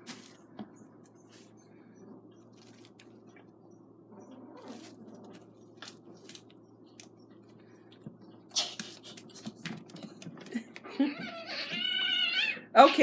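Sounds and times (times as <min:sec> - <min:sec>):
kittens wrestling and scuffling: 0:00.0 - 0:03.6, 0:04.3 - 0:13.0.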